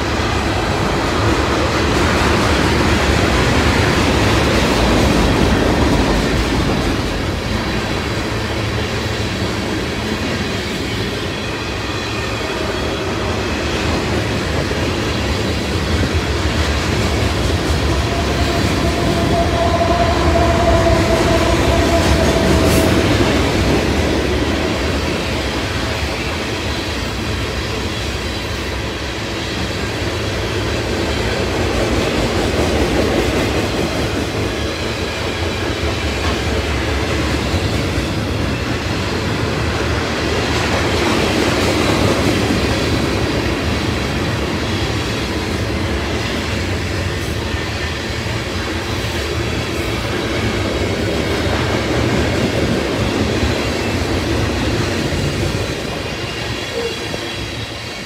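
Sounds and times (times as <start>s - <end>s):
freight train cars rolling on rails: 0.0s - 58.0s.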